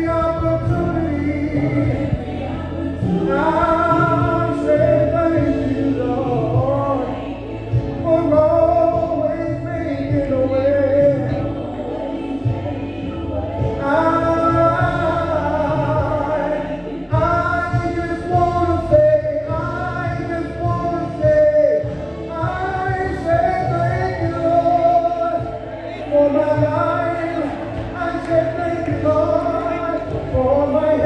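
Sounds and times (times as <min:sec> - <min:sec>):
man singing into microphone: 0:00.0 - 0:31.0.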